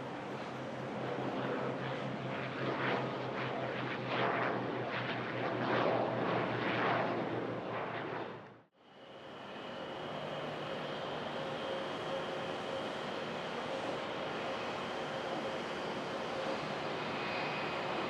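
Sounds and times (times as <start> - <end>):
aircraft whine: 0.0 - 18.0
turboprop engines droning: 0.0 - 18.0.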